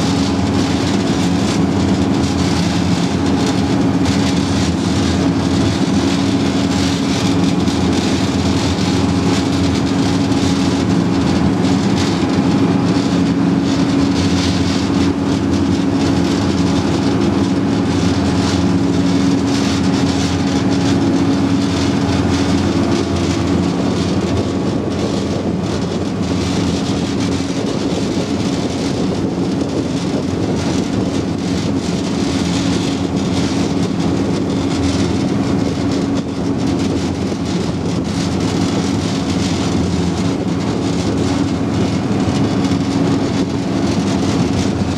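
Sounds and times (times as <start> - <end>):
rushing noise: 0.0 - 44.9
vehicle engine humming: 0.0 - 44.9.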